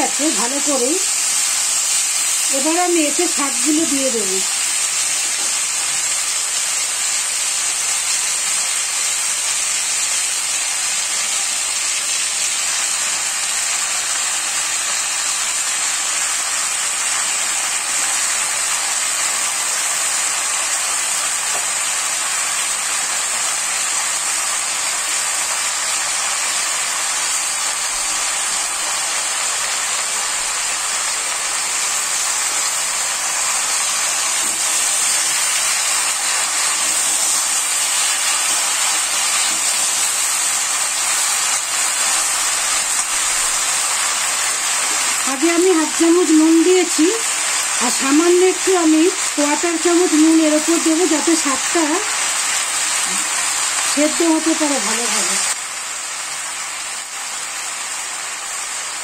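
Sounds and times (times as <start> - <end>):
vegetables sizzling in hot oil: 0.0 - 59.0.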